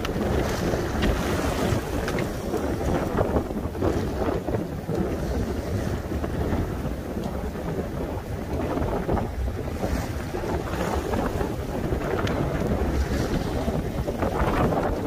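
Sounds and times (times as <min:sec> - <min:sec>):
choppy sea waves: 0:00.0 - 0:15.0
wind buffeting microphone: 0:00.0 - 0:15.0.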